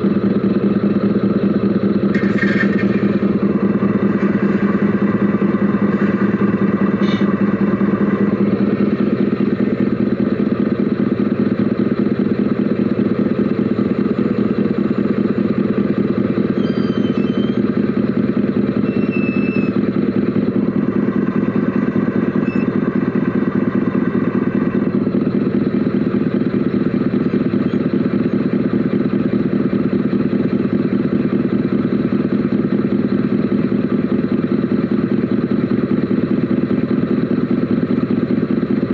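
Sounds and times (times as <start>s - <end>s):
steady pulsing engine drone: 0.0s - 38.9s.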